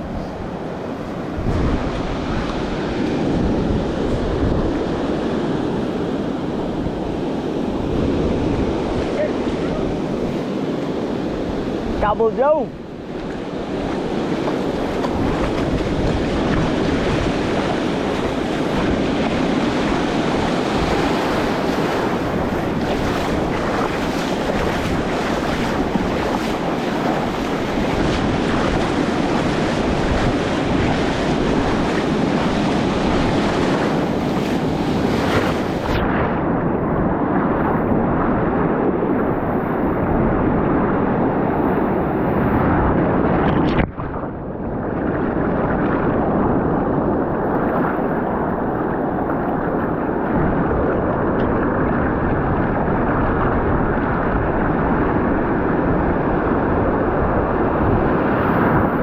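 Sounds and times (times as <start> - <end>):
surf roaring: 0.0 - 59.0
wind buffeting microphone: 0.0 - 59.0.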